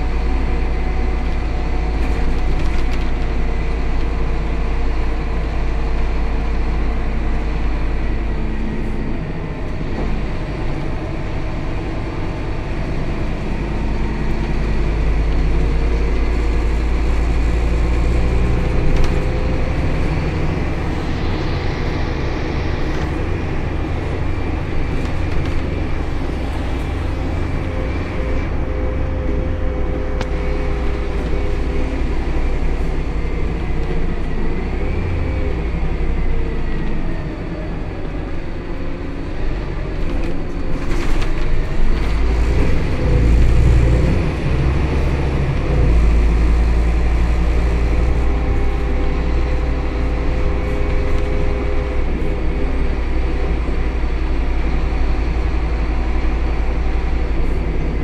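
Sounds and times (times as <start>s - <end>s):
bus diesel engine rumble: 0.0s - 58.0s.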